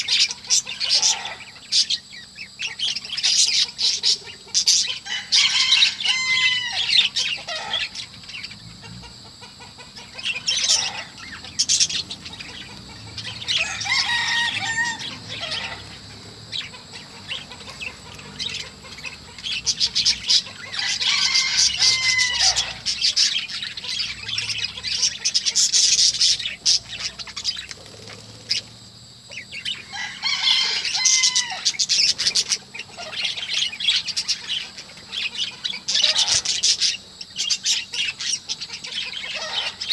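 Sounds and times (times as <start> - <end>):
budgerigars chirping and warbling: 0.0 - 28.7, 29.3 - 39.9.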